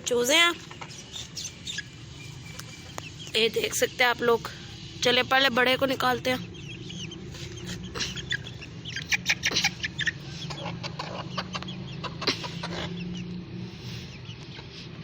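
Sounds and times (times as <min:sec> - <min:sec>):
chicks clucking and chirping: 0:00.1 - 0:15.0.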